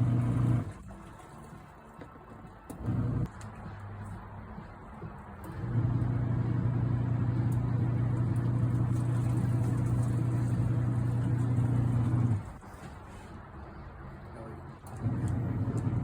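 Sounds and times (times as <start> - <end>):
washing machine motor hum: 0.0 - 13.0, 14.8 - 16.0.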